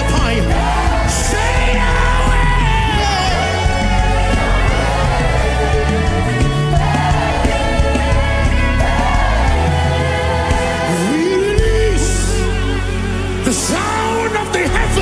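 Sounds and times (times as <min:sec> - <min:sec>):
gospel band with bass and keyboard: 0:00.0 - 0:15.0.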